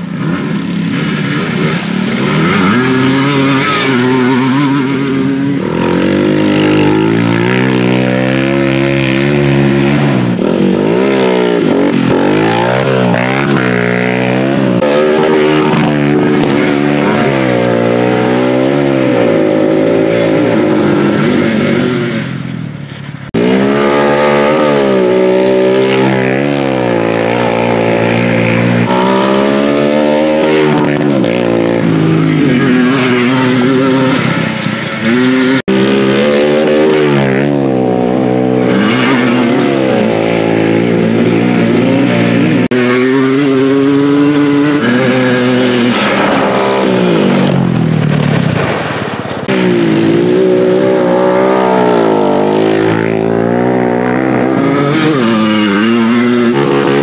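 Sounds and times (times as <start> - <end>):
atv engines revving: 0.0 - 57.0.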